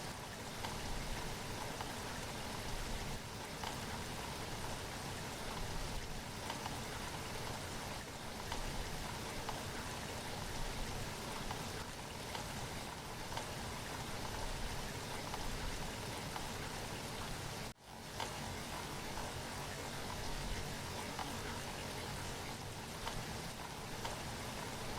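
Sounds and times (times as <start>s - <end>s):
raindrops ticking: 0.0s - 24.9s
steady rainfall: 0.0s - 24.9s.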